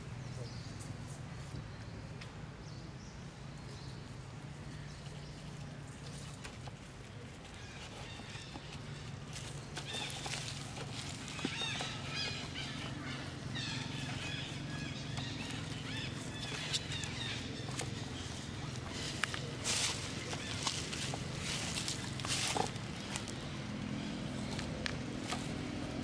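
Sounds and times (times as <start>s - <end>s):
dry leaves crackling underfoot: 4.5s - 26.0s.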